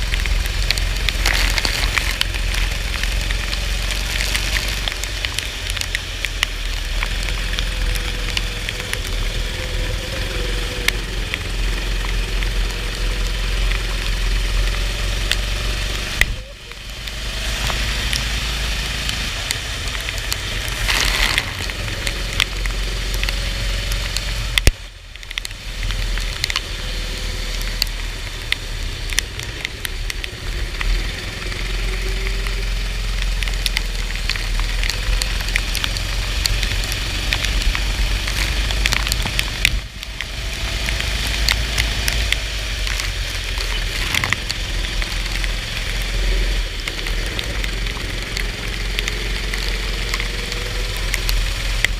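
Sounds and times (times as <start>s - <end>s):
rain and water spray: 0.0s - 51.9s.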